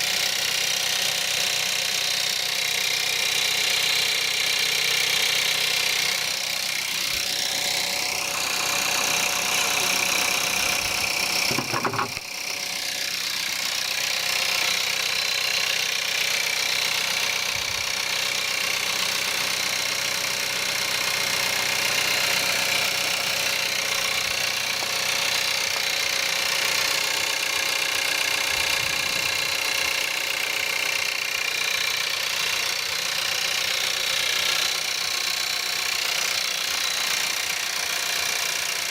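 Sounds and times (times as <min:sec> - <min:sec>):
car engine rattling idle: 0:00.0 - 0:38.9.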